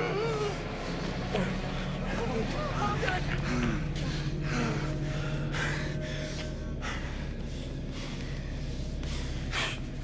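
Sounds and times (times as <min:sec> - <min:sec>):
low music drone: 0:00.0 - 0:10.0.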